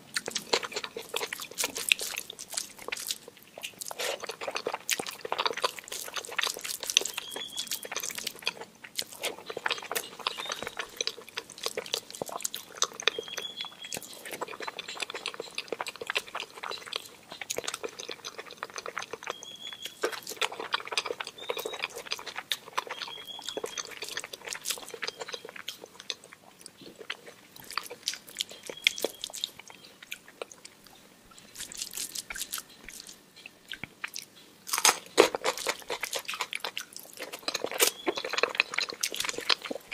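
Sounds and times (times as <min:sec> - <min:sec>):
chewing and wet smacks: 0:00.0 - 0:39.9
small crunches: 0:00.1 - 0:39.9.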